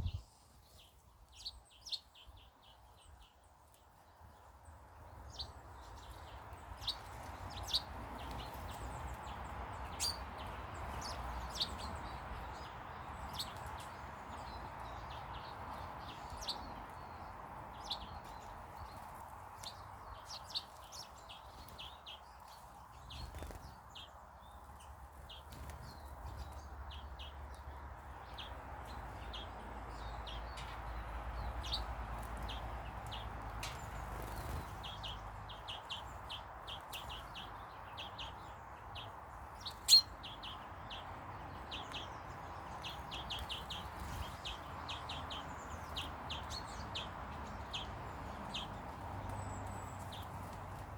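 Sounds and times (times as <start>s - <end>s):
birds chirping: 4.2s - 50.9s.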